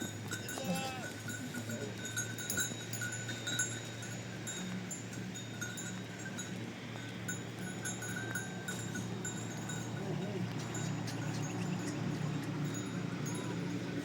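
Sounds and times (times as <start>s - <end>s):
livestock bells clinking: 0.0s - 14.0s.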